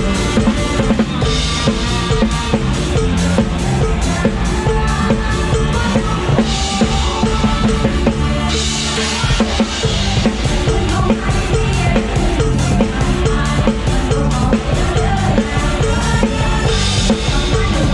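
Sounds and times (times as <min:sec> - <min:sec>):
live band music: 0:00.0 - 0:17.9.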